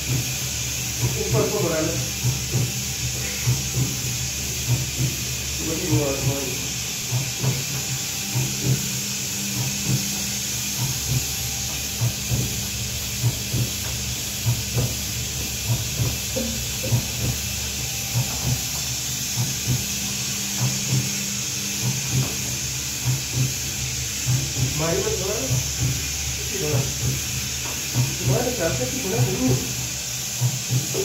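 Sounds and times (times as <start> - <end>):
agitator churning powder: 0.0 - 31.0
motor and gearbox hum: 0.0 - 31.0
steady hiss: 0.0 - 31.0.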